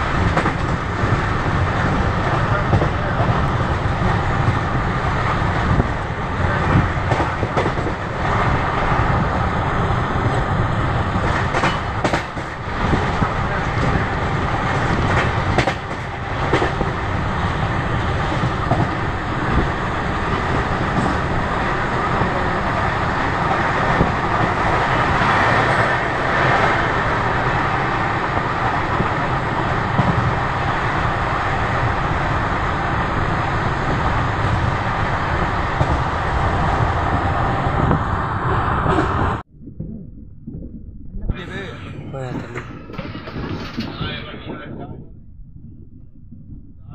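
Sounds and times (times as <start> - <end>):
train wheels rumbling on rails: 0.0 - 39.5, 41.4 - 45.1.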